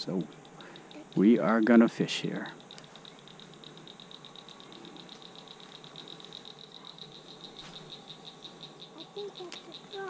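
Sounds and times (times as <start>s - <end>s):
animal rapid clicking call: 0.0s - 10.0s.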